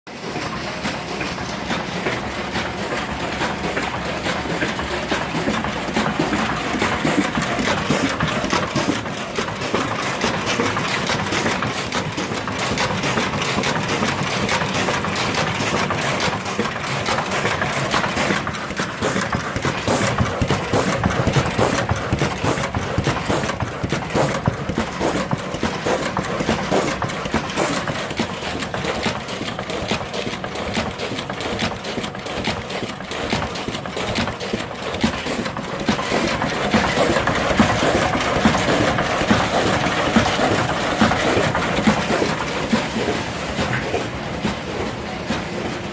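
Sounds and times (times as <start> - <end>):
machinery rapid mechanical clatter: 0.1 - 45.9.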